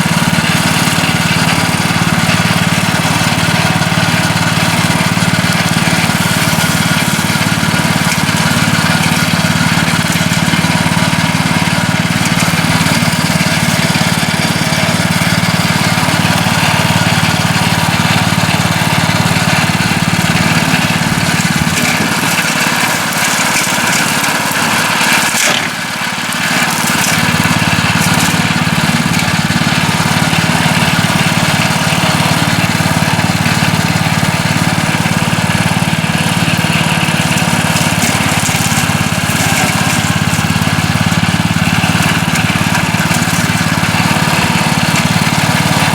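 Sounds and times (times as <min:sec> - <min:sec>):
brush cutter cutting grass: 0:00.0 - 0:45.9.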